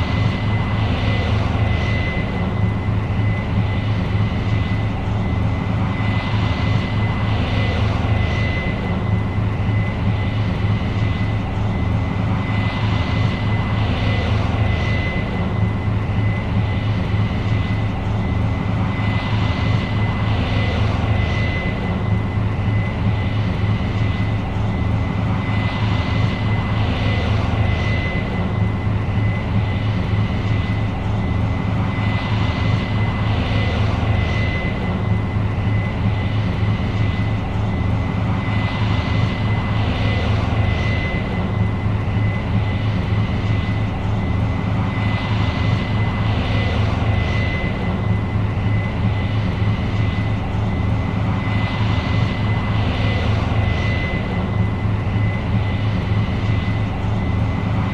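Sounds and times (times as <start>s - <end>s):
deep engine drone: 0.0s - 57.9s
high-pitched whine: 0.0s - 57.9s.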